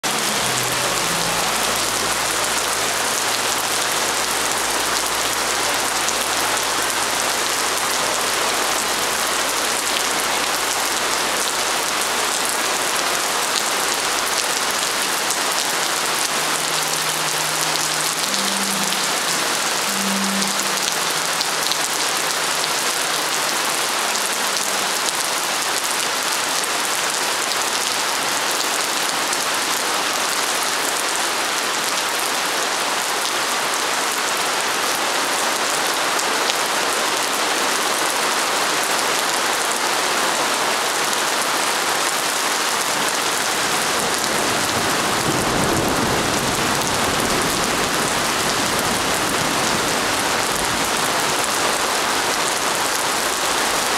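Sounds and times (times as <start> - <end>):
heavy rain on stone paving: 0.0 - 53.9.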